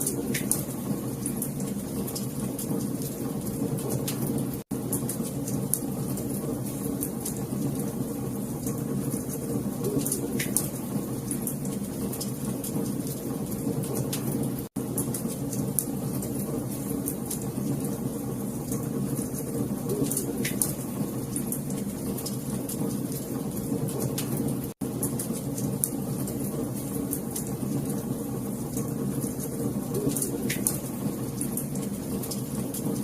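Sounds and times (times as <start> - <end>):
fire crackles and pops: 0.0 - 33.0
fire rumbling: 0.0 - 33.0.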